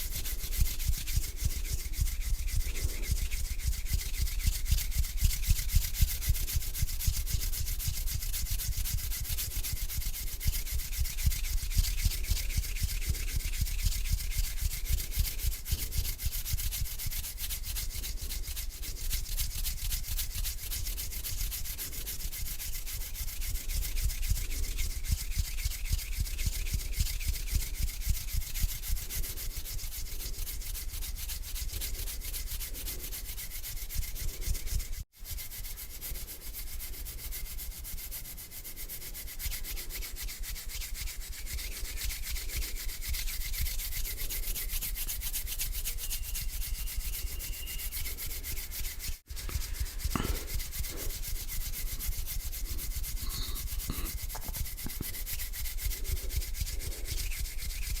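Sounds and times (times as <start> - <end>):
hands rubbing together: 0.0 - 58.0.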